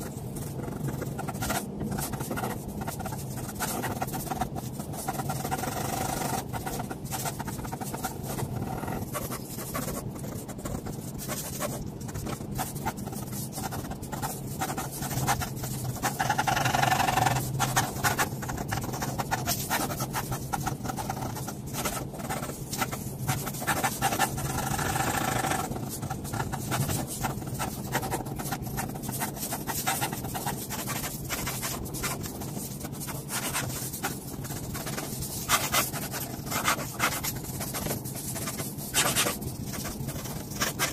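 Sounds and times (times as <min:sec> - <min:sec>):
low steady hum: 0:00.0 - 0:40.9
pen scratching on paper: 0:00.0 - 0:40.9.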